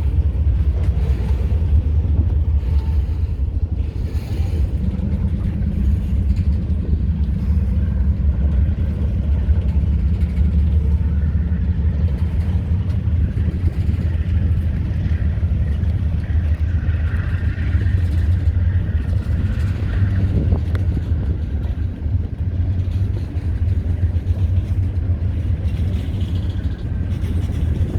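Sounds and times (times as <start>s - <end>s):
freight train rumbling: 0.0s - 27.9s.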